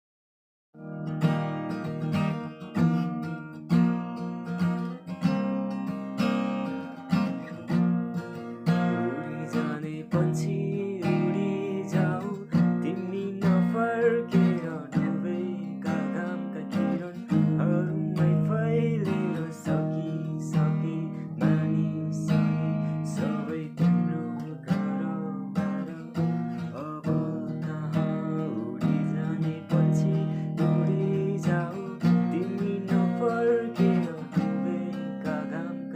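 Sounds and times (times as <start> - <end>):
acoustic guitar strumming: 0.8 - 35.9.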